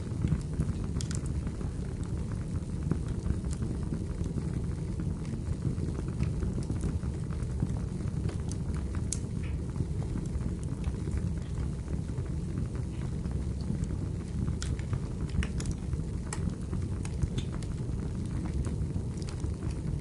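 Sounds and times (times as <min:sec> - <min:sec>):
firewood crackling and popping: 0:00.0 - 0:20.0
wood fire burning: 0:00.0 - 0:20.0.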